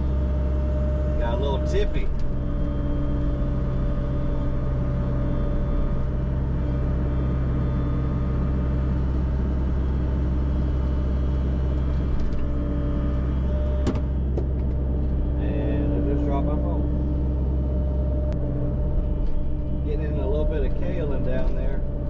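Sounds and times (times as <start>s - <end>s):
excavator diesel engine drone: 0.0s - 22.0s
steady whine: 0.0s - 22.0s.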